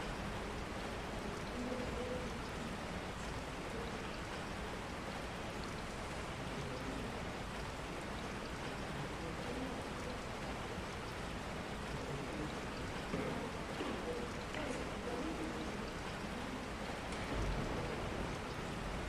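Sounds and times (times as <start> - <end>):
faint low murmurs: 0.0 - 19.0
steady rain: 0.0 - 19.0.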